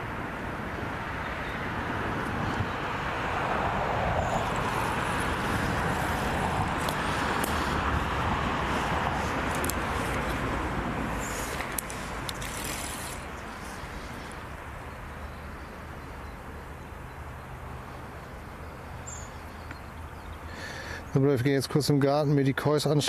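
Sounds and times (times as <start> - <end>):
passing road vehicle: 0.0 - 21.2.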